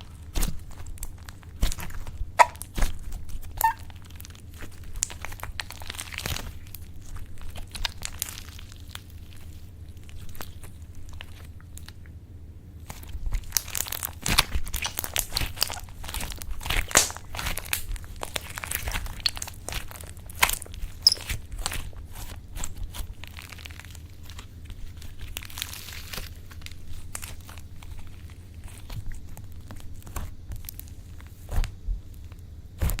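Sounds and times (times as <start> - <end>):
slime being squished: 0.0 - 12.1, 12.8 - 33.0
crackling and popping of air: 0.0 - 33.0.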